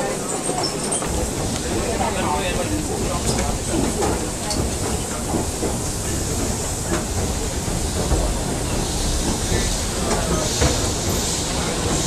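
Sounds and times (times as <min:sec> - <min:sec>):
station rumble and hiss: 0:01.0 - 0:12.0.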